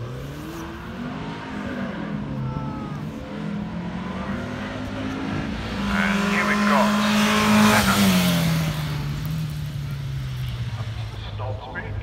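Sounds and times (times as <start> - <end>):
sports car engine accelerating: 0.0 - 11.8.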